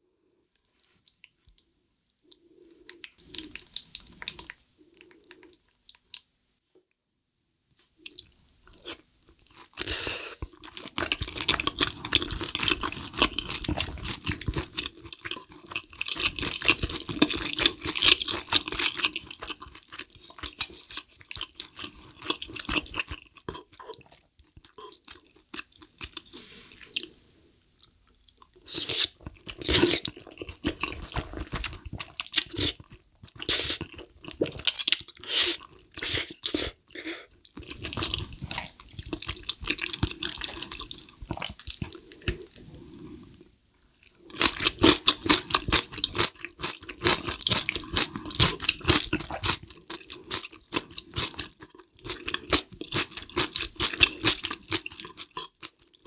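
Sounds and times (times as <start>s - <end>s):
wet chewing sounds: 8.0s - 27.2s, 27.8s - 36.6s, 37.3s - 42.7s, 44.0s - 56.0s.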